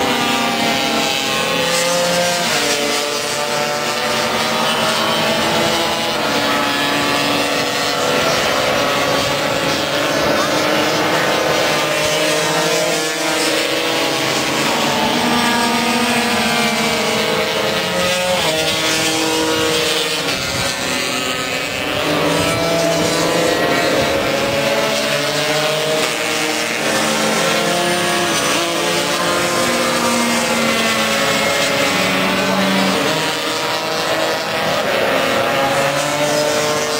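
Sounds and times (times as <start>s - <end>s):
scooter engines screaming: 0.0s - 36.9s.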